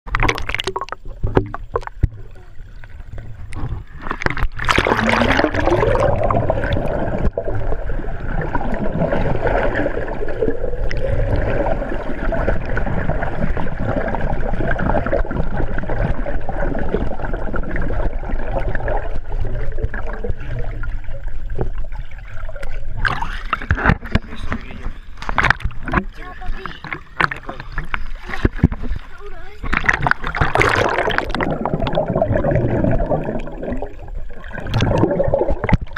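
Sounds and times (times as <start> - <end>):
muffled underwater churning and gurgling: 0.1 - 35.9
steady underwater tone: 0.1 - 35.9
water splashing: 0.1 - 35.9.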